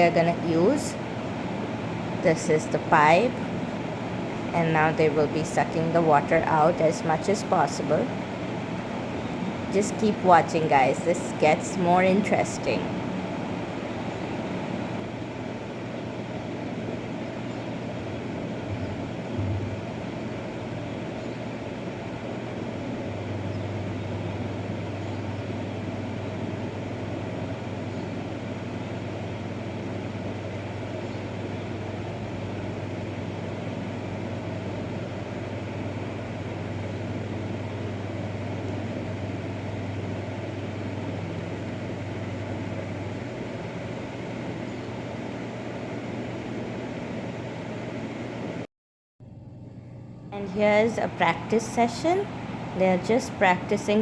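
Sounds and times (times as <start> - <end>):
motor pump humming: 0.0 - 15.8, 16.6 - 48.0.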